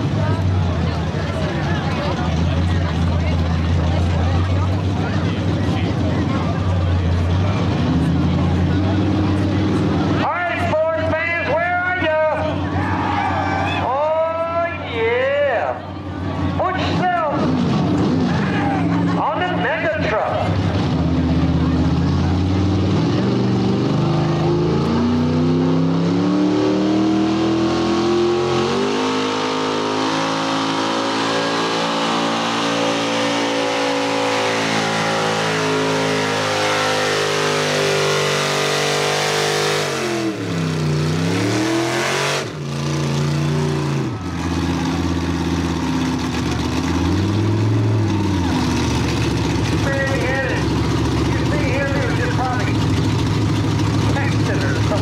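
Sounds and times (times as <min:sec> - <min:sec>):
truck engine revving hard: 0:00.0 - 0:55.0.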